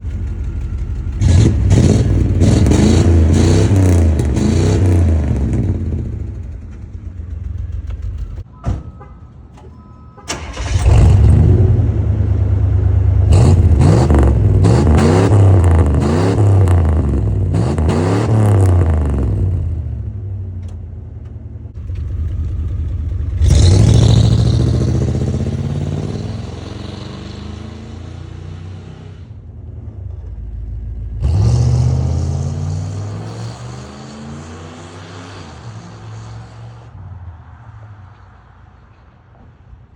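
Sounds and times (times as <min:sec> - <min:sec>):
car engine revving: 0:00.0 - 0:08.4, 0:10.3 - 0:20.3, 0:21.8 - 0:37.6.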